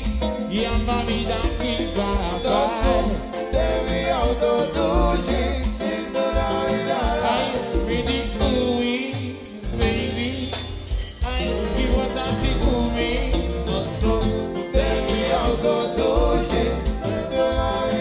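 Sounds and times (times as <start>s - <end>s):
band music with singer: 0.0s - 18.0s.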